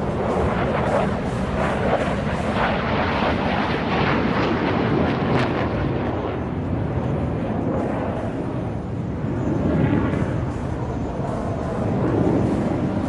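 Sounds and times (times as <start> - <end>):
fighter jet passing: 0.0 - 13.0.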